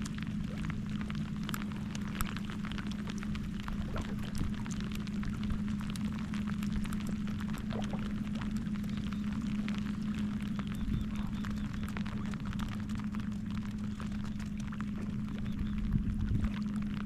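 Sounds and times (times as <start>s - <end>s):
rain drops ticking: 0.0s - 17.0s
steady low hum: 0.0s - 17.0s.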